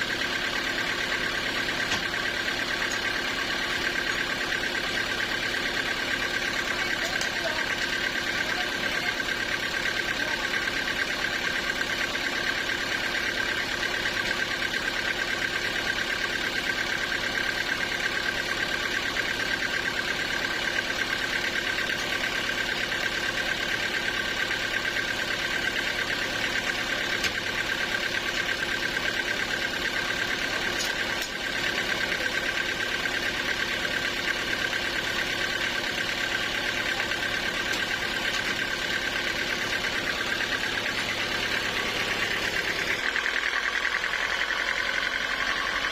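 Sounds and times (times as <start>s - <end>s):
sawmill machinery running: 0.0s - 45.9s.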